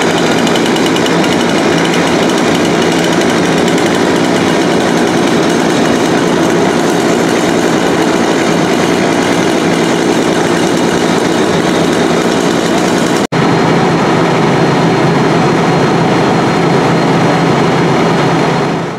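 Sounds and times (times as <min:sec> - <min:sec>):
diesel engine droning: 0:00.0 - 0:18.9.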